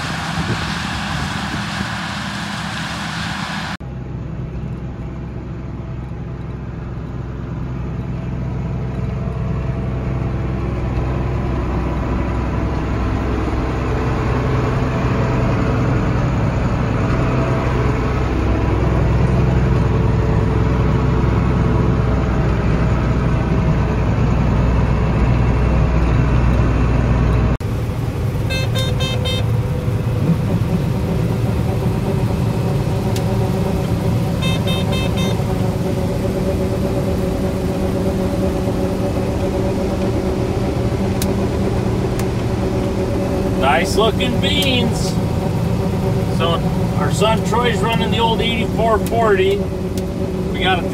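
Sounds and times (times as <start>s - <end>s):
engine and machinery drone: 0.0s - 50.9s
engine hum: 0.0s - 50.9s.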